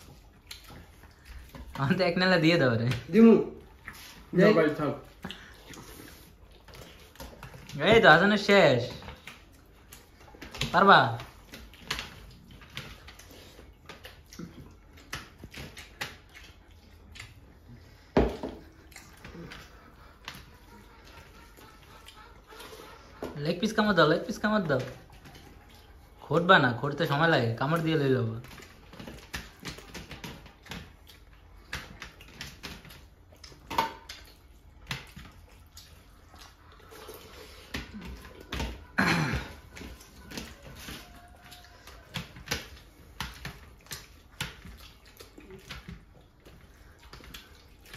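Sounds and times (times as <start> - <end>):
chewing and lip smacks: 0.0 - 2.2, 2.8 - 47.9
fingers mixing rice on steel platters: 0.0 - 47.9
people eating by hand: 0.0 - 47.9.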